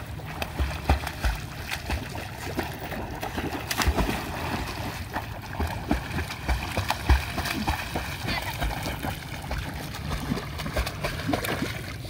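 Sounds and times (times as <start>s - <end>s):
dogs splashing in water: 0.0s - 12.0s.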